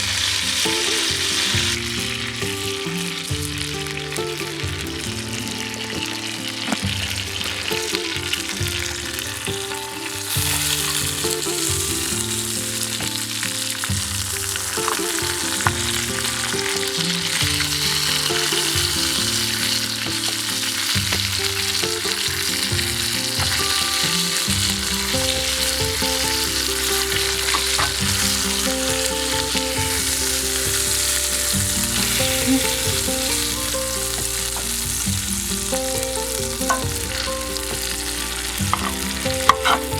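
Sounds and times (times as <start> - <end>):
meat sizzling in a skillet: 0.0 - 39.9.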